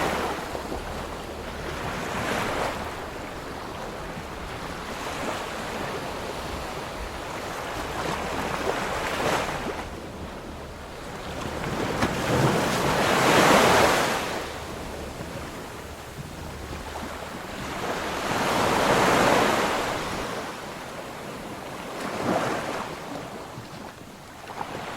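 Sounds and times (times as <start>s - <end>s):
ocean waves breaking: 0.0s - 24.9s.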